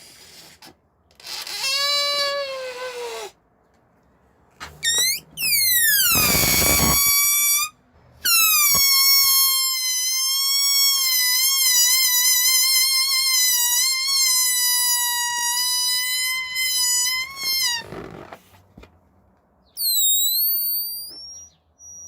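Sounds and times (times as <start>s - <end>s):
balloon air escaping squealing: 0.0s - 3.4s, 4.8s - 18.3s, 19.8s - 22.0s.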